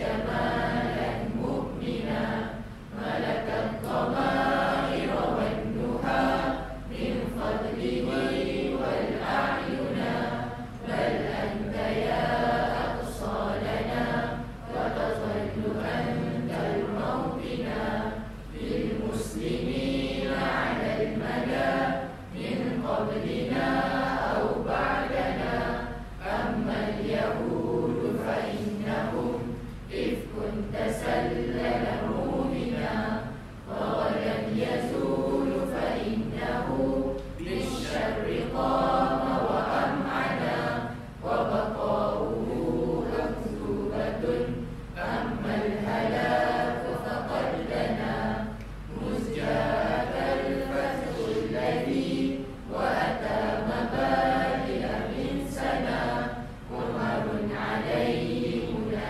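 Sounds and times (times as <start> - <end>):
group of voices singing: 0.0 - 59.0
low steady hum: 0.0 - 59.0.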